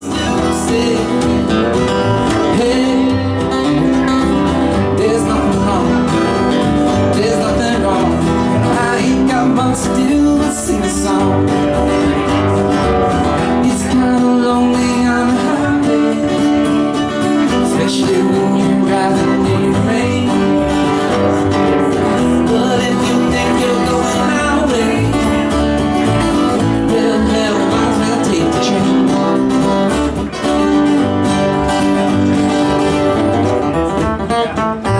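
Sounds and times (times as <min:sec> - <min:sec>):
person singing: 0:00.0 - 0:33.5
guitar: 0:00.0 - 0:34.9
live country band: 0:00.0 - 0:34.9.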